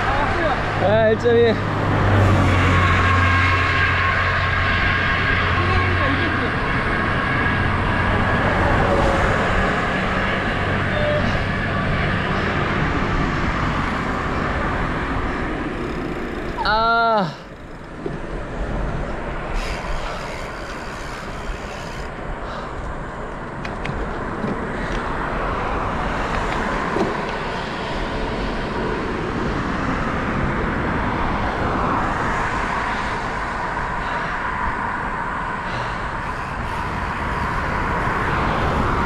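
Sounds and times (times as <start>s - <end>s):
road noise: 0.0s - 39.0s
traffic noise: 0.0s - 39.0s
wind rushing on microphone: 0.0s - 39.0s.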